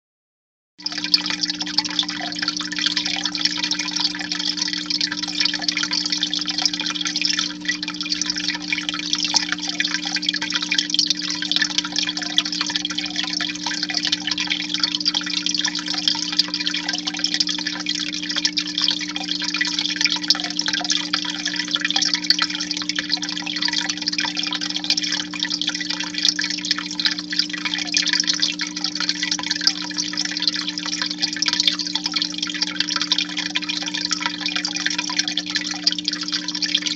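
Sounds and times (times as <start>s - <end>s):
aquarium filter hum: 0.8s - 36.9s
water trickling and splashing: 0.8s - 36.9s.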